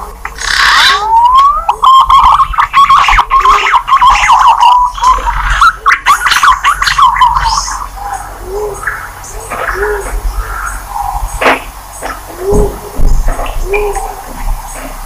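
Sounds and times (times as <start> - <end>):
warbling pigeon call whistles: 0.0 - 15.0.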